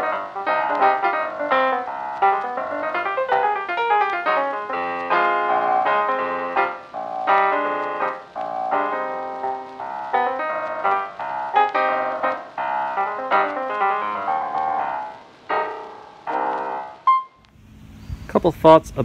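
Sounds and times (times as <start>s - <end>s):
piano music: 0.0s - 17.4s.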